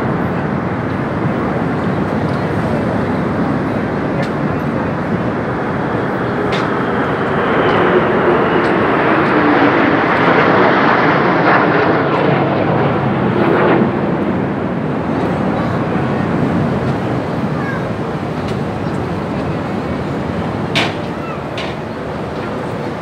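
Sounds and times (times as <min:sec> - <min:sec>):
jets flying over: 0:00.0 - 0:23.0.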